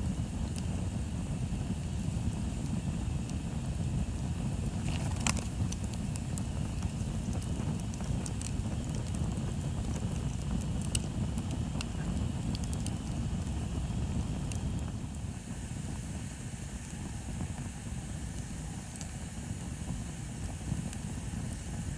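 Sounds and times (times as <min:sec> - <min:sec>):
bonfire crackling and popping: 0:00.0 - 0:15.6, 0:16.7 - 0:21.9.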